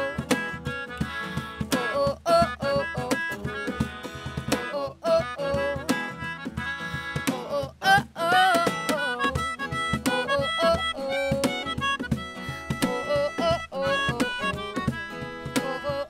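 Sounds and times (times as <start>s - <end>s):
woman singing: 0.0s - 0.4s, 1.3s - 3.8s, 4.5s - 11.8s, 12.4s - 16.0s
cajon beat: 0.0s - 16.0s
strummed acoustic guitar: 0.0s - 16.0s.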